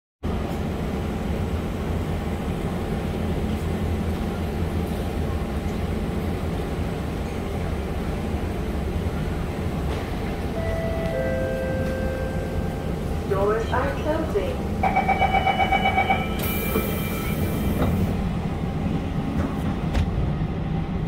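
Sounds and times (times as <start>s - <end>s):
train equipment humming: 0.3s - 21.0s.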